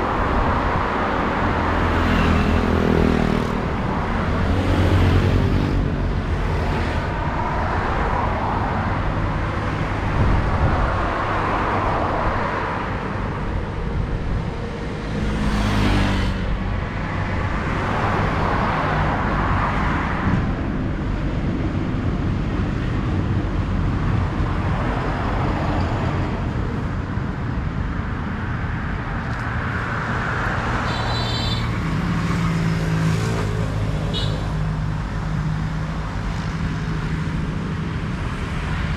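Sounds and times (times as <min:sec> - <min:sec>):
vehicles passing: 0:00.0 - 0:38.9.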